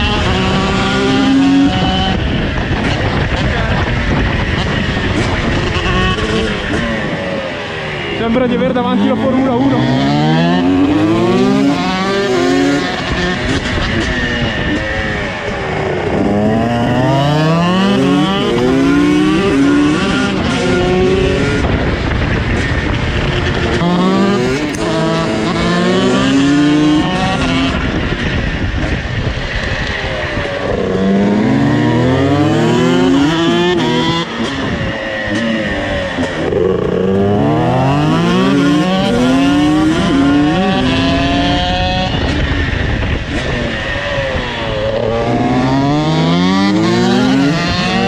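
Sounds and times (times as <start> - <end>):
two-stroke motorcycles revving: 0.0 - 48.0.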